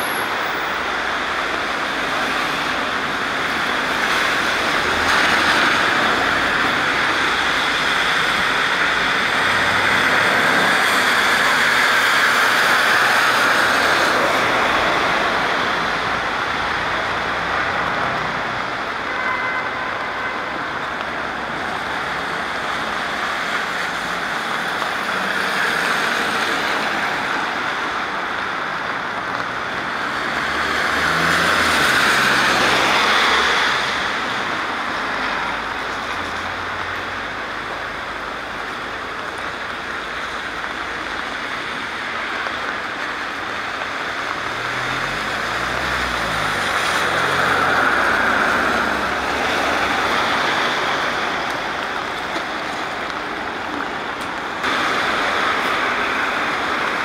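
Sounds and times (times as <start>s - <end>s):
steady rain: 0.0s - 57.0s
tyres hissing on wet road: 0.0s - 57.0s.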